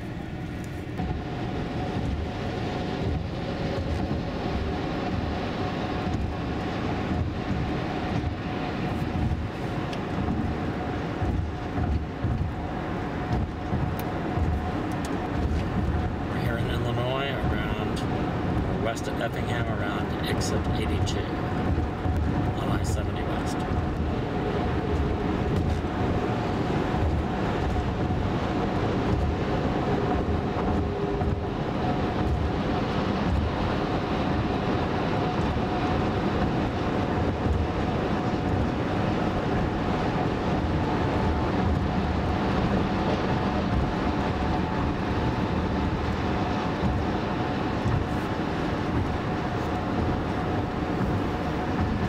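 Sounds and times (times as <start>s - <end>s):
road and wind noise in car cabin: 0.0s - 52.0s.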